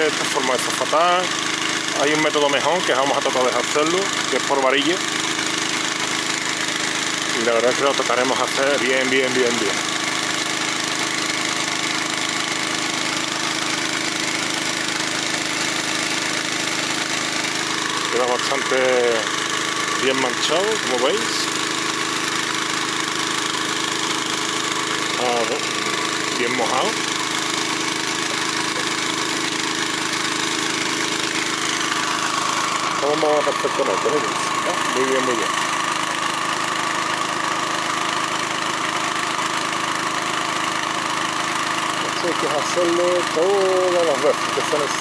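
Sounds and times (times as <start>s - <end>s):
small engine running steadily: 0.0s - 45.0s.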